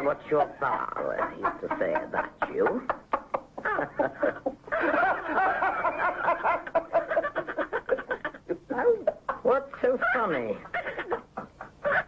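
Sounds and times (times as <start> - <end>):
man giggling: 1.1 - 9.5, 10.1 - 12.0.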